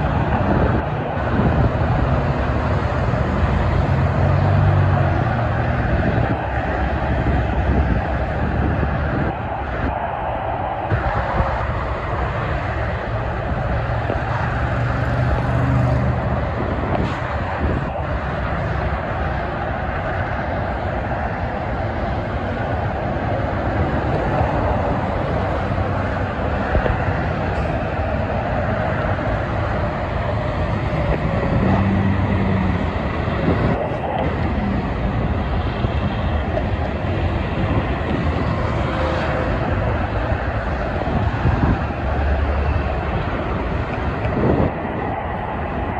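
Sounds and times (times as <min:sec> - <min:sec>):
diesel truck engine drone: 0:00.0 - 0:45.9
freeway traffic rush: 0:00.0 - 0:45.9.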